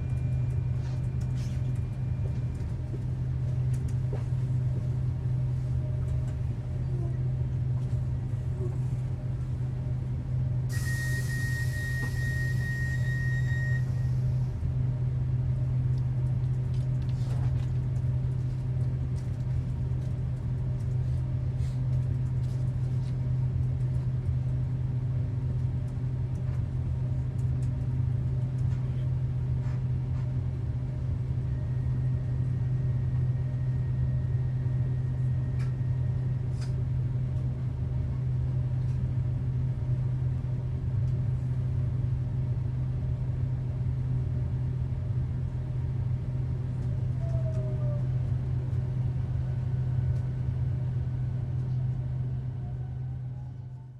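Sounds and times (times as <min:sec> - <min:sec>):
train interior hum and rumble: 0:00.0 - 0:53.9.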